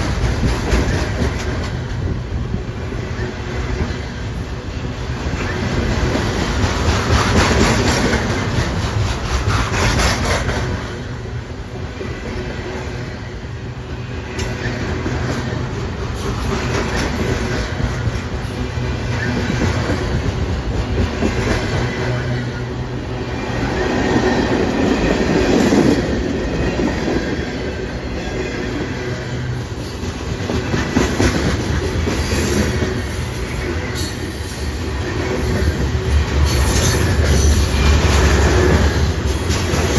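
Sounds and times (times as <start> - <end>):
rail joints clicking: 0.0 - 39.9
train wheels rumbling: 0.0 - 39.9.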